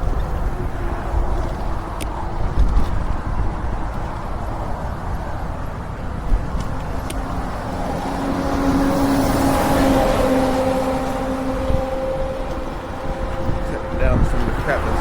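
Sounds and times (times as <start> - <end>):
vehicle passing close by: 0.0 - 15.0
wind rumble on microphone: 0.0 - 15.0.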